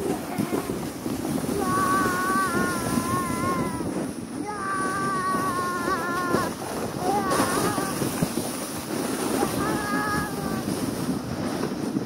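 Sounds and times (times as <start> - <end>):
sled scraping on snow: 0.0 - 12.0
wind on microphone: 0.0 - 12.0.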